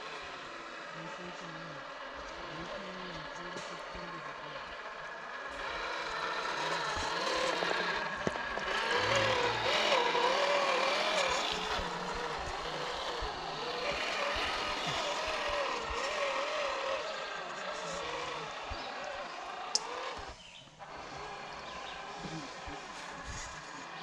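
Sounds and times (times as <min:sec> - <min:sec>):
electric motor and gear whine: 0:00.0 - 0:24.0.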